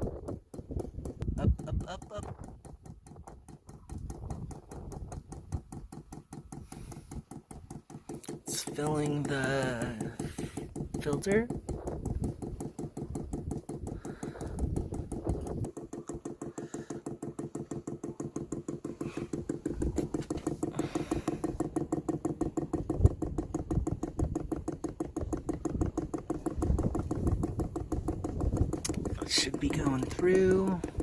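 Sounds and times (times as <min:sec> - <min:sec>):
fuel pump clicking rapidly: 0:00.0 - 0:31.0.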